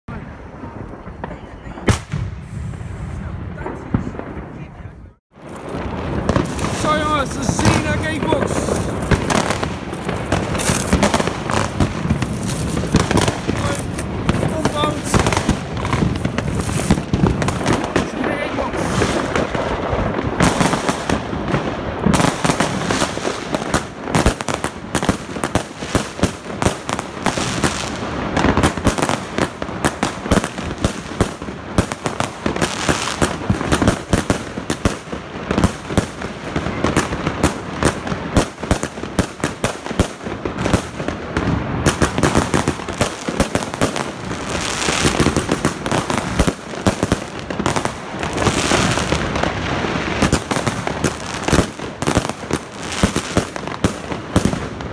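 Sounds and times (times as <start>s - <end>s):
fireworks aerial bursts: 0.1s - 54.9s.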